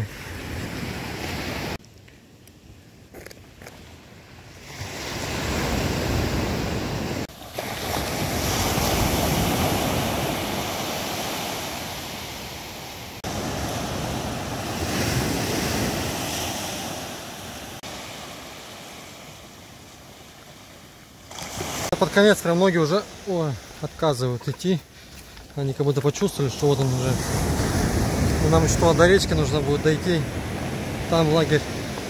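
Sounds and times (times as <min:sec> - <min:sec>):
sea surf washing onto beach: 0:04.6 - 0:32.0.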